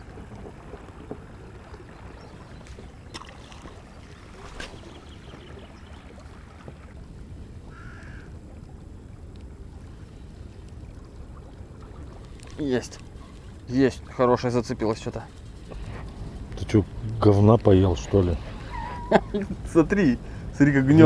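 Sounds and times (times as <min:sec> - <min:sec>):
low wind: 0:00.0 - 0:21.0
water noise around boat: 0:00.0 - 0:21.0.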